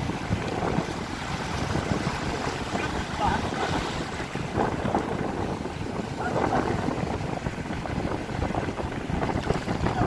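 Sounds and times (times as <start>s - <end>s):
sea surf: 0.0s - 10.0s
wind rumbling on microphone: 0.0s - 10.0s.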